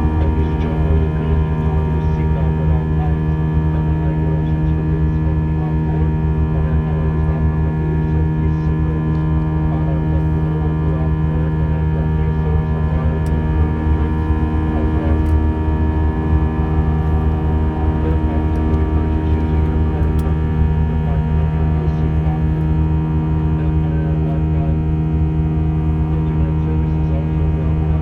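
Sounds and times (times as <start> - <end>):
airplane cabin engine drone: 0.0 - 28.0.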